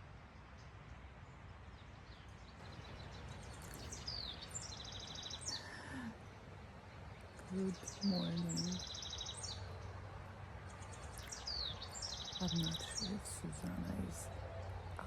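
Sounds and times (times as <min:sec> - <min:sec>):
low outdoor background noise: 0:00.0 - 0:15.0
wild birds chirping: 0:00.0 - 0:15.0.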